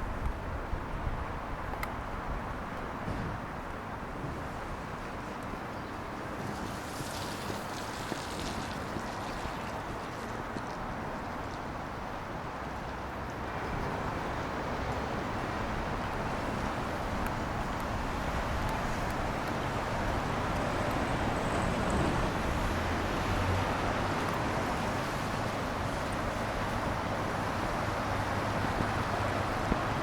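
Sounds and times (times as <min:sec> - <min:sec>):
road traffic on wet streets: 0:00.0 - 0:30.0.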